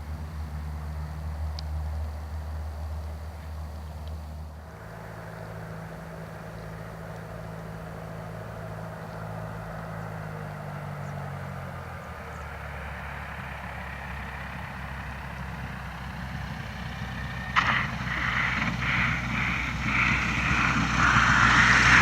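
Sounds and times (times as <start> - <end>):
propeller plane engine running: 0.0 - 22.0.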